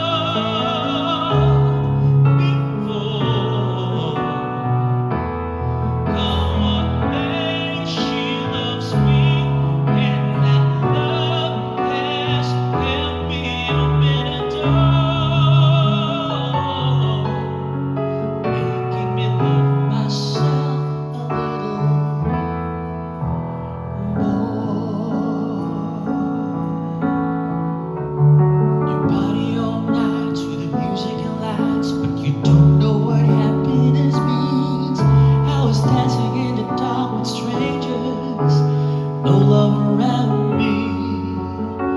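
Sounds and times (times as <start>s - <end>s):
operatic singing: 0.0s - 22.5s, 23.8s - 27.5s, 28.9s - 41.9s
piano accompaniment: 0.0s - 41.9s.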